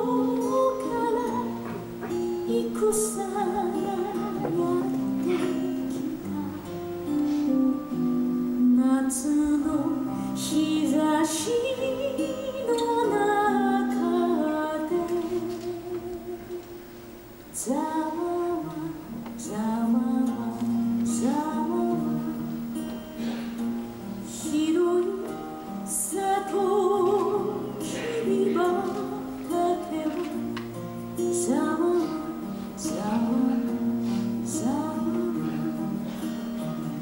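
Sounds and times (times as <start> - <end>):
woman singing: 0.0 - 16.8, 17.5 - 37.0
plucked guitar: 0.0 - 37.0.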